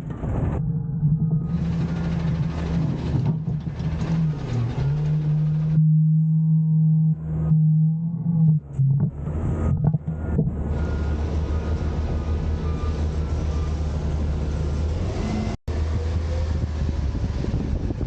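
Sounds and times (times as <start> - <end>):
garbage truck engine drone: 0.0 - 18.0.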